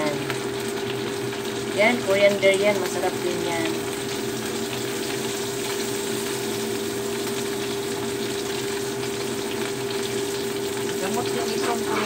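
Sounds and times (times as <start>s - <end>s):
tofu sizzling in oil: 0.0s - 12.0s.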